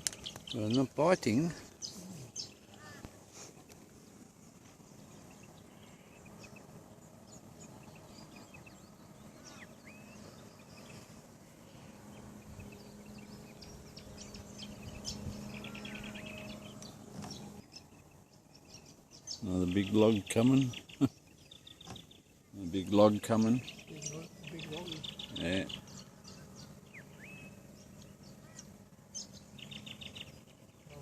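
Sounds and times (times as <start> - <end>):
birds chirping and calling: 0.0 - 31.0
low steady hum: 0.0 - 31.0
bird trill: 5.0 - 31.0.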